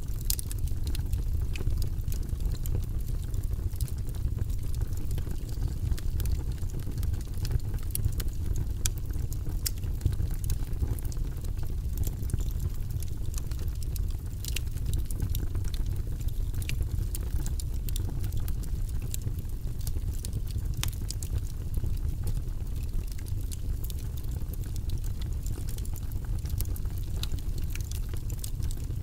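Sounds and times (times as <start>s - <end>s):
fire rumbling: 0.0s - 29.0s
logs crackling and popping: 0.0s - 29.0s.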